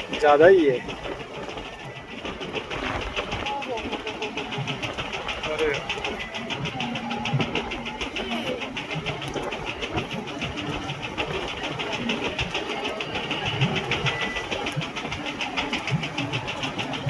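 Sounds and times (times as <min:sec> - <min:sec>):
motorboat engine running: 0:00.0 - 0:17.0
rapid even knocking: 0:00.0 - 0:17.0.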